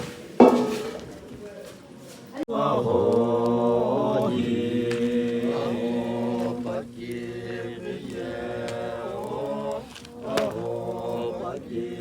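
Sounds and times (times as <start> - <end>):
chant-like singing: 2.3 - 12.0.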